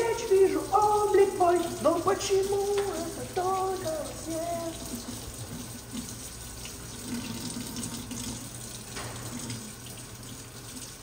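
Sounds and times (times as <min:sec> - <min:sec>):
plastic forks being washed: 0:00.0 - 0:11.0
tap water running into sink: 0:00.0 - 0:11.0.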